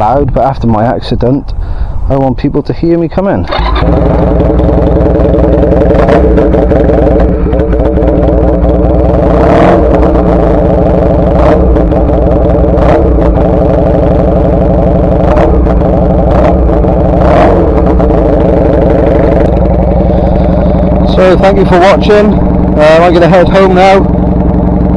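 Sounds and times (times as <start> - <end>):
motorcycle engine idling loudly: 3.5 - 24.9.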